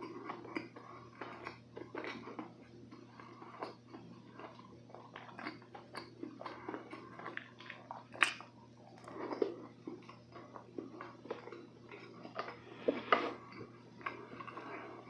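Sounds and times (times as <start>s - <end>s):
chewing soft cake: 0.0s - 15.0s.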